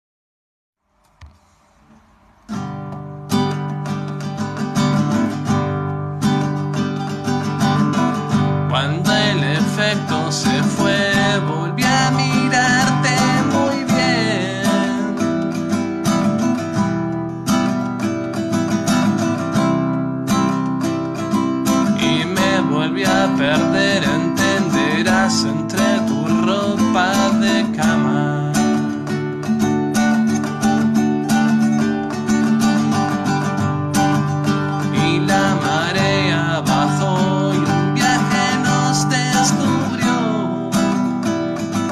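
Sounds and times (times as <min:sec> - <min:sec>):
acoustic guitar strummed: 0:01.2 - 0:41.9.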